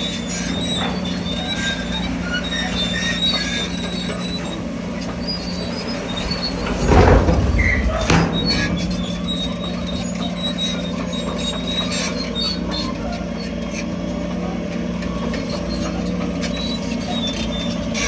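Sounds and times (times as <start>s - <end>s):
bulldozer engine running: 0.0s - 18.0s
steel tracks squealing: 0.0s - 18.0s.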